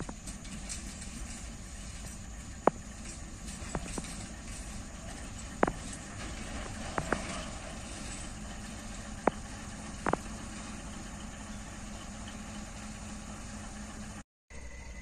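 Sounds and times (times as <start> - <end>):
distant locomotive idling: 0.0 - 15.0.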